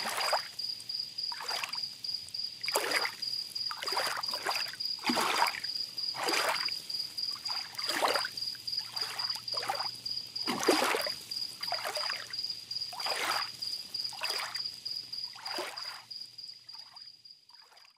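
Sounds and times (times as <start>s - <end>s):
small waves lapping on beach: 0.0s - 0.6s, 1.3s - 17.0s
cricket trill: 0.0s - 17.9s.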